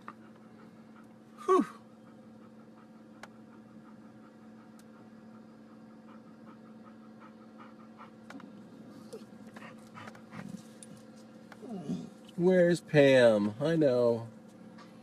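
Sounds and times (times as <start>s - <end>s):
dog panting: 0.0s - 12.2s
faint electrical hum: 0.0s - 15.0s.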